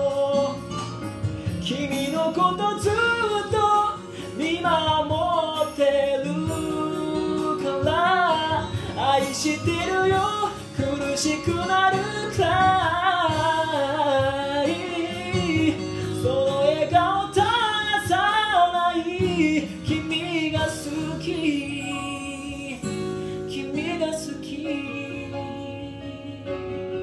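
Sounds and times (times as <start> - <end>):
man singing vocal runs: 0.0 - 26.7
guitar-led backing music: 0.0 - 27.0.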